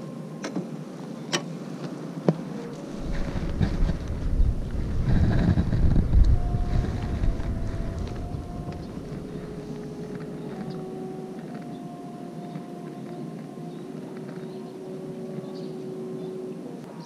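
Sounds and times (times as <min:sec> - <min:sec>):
faint held notes: 0:00.0 - 0:17.0
wind buffeting microphone: 0:02.0 - 0:16.8.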